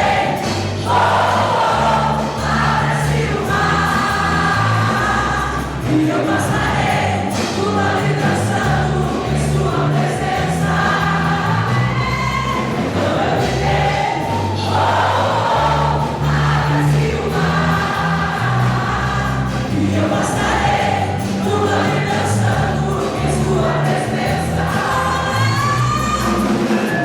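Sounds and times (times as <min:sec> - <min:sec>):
sustained bass notes: 0:00.0 - 0:26.8
group of voices singing: 0:00.0 - 0:27.0
instrumental accompaniment: 0:00.0 - 0:27.0.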